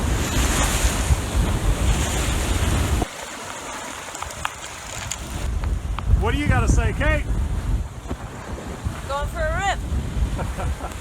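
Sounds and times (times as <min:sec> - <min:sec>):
wind buffeting microphone: 0:00.0 - 0:03.1, 0:04.1 - 0:11.0
water rushing along hull: 0:00.0 - 0:11.0.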